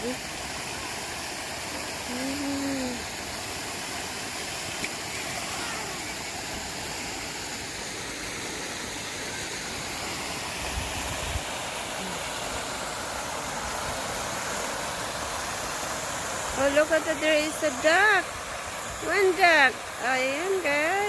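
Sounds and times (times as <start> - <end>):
water fountain splashing: 0.0 - 21.0.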